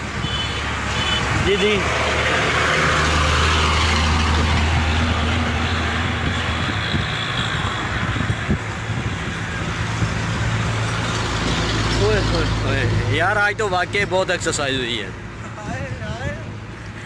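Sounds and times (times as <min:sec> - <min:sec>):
heavy vehicle engine rumble: 0:00.0 - 0:17.0.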